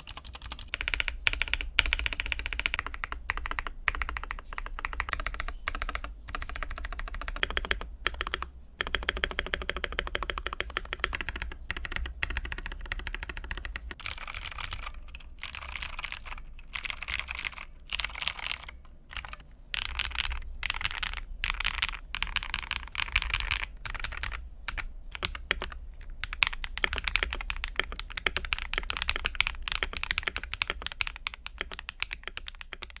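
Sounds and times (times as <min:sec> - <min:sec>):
mechanical keyboard typing: 0:00.0 - 0:33.0.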